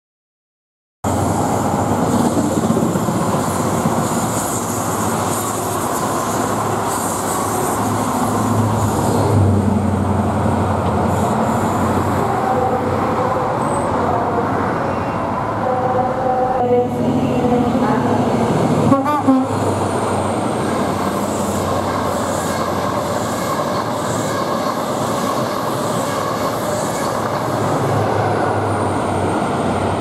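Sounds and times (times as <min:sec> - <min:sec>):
train wheels rumbling on track: 0:01.1 - 0:15.6, 0:16.9 - 0:30.0.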